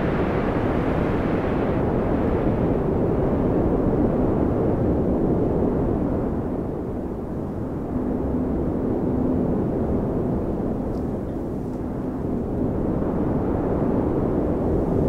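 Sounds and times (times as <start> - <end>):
faint hum: 0.0 - 15.0
low rumble of wind: 0.0 - 15.0.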